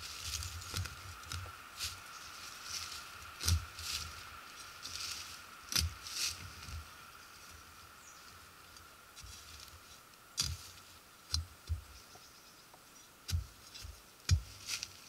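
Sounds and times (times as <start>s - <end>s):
dry leaves crunching: 0.0s - 11.0s, 13.3s - 15.0s
faint high hum: 0.0s - 15.0s.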